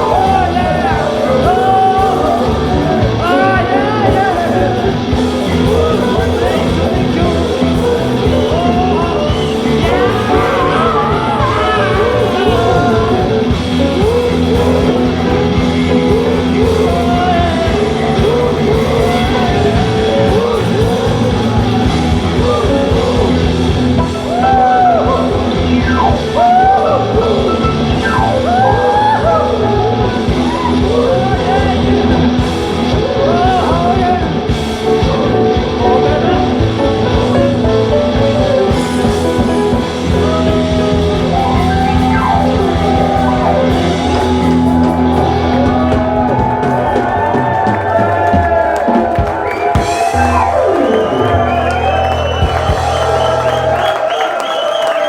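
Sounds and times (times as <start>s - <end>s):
person singing: 0.0s - 49.1s
guitar: 0.0s - 55.0s
rock band playing: 0.0s - 55.0s.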